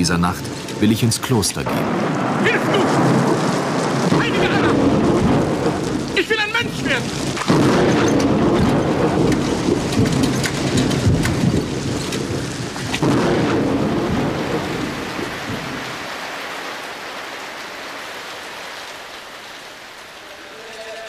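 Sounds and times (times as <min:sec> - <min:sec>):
rolling crackling thunder: 0:00.0 - 0:20.2
rain pouring: 0:00.0 - 0:21.0.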